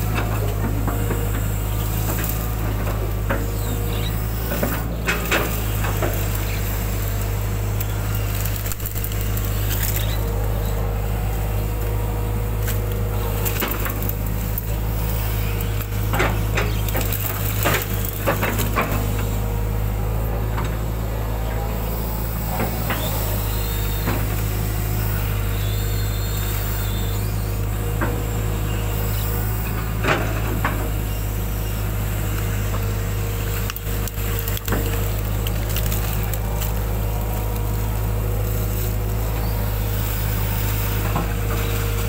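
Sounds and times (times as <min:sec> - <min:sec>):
excavator diesel engine whining: 0:00.0 - 0:42.0.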